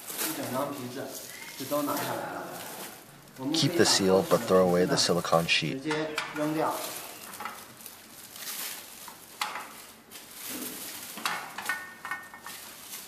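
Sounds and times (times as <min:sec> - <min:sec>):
rustling and rubbing of silicone: 0:00.0 - 0:05.5, 0:06.3 - 0:13.0.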